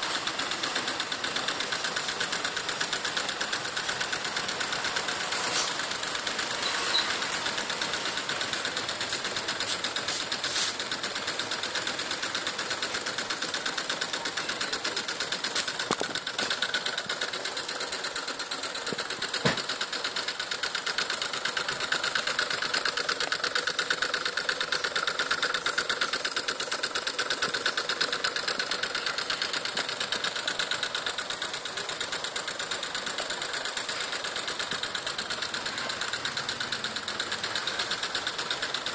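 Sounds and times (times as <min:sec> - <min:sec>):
small engine clattering rhythmically: 0:00.0 - 0:38.9.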